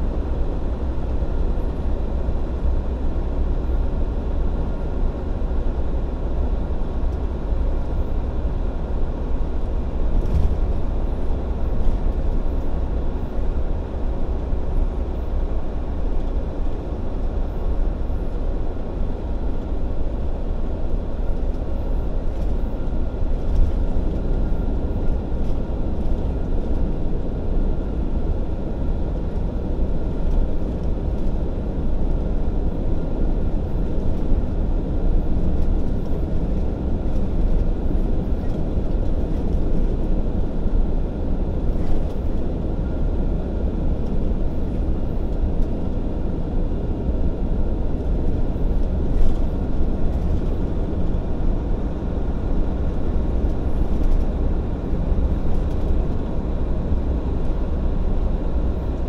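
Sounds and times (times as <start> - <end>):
truck engine and tyre drone: 0.0 - 59.0.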